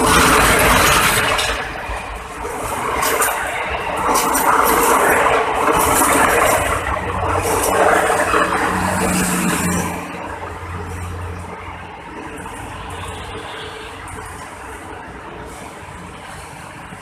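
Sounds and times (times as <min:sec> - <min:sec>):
train wheels rumbling and rattling: 0:00.0 - 0:17.0.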